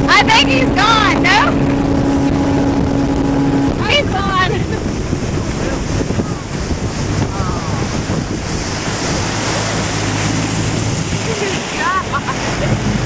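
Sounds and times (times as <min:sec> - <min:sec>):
boat engine droning: 0:00.0 - 0:13.0
churning wake water: 0:00.0 - 0:13.0
wind buffeting microphone: 0:00.0 - 0:13.0.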